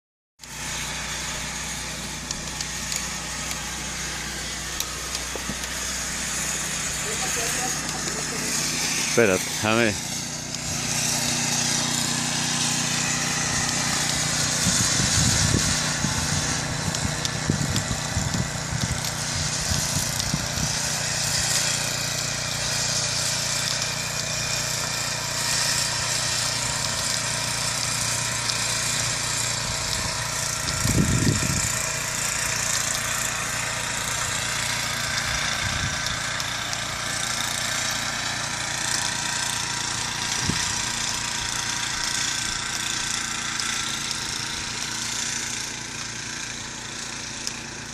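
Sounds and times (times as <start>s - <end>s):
engine running with low hum: 0.4s - 47.9s.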